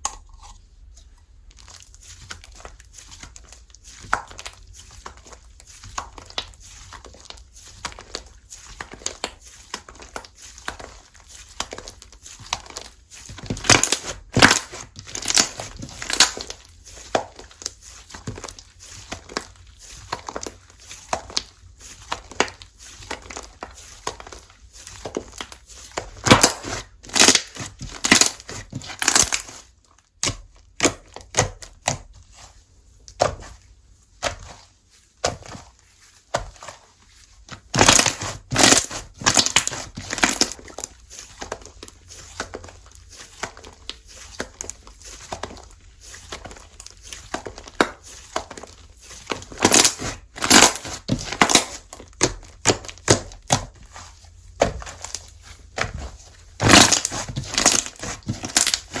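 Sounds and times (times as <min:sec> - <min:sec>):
slime squished by hand: 0:01.5 - 0:59.0.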